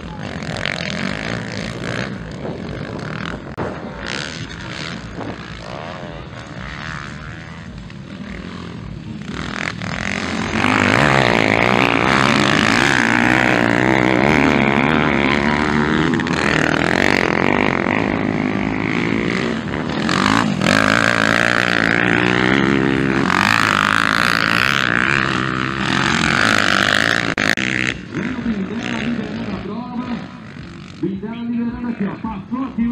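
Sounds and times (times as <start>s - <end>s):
motocross bike engines revving: 0.0s - 32.9s.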